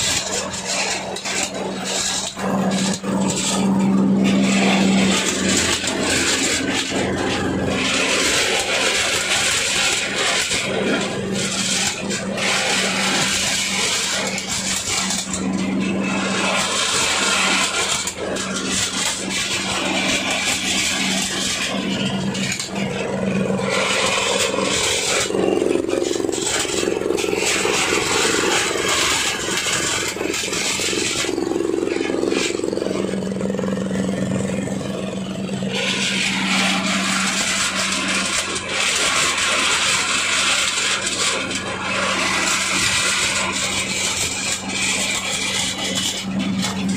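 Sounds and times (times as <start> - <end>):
diesel engine hum: 0.0 - 46.9
nuts scraping and rattling in husker: 0.0 - 46.9.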